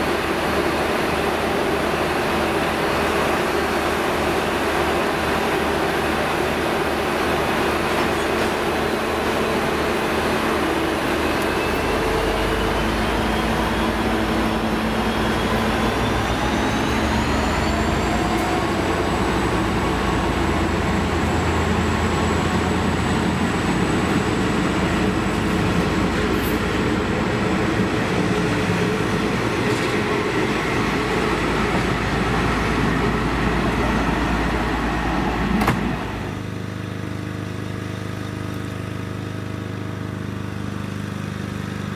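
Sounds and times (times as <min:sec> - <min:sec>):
train whine: 0:00.0 - 0:37.4
diesel train running: 0:00.0 - 0:41.9.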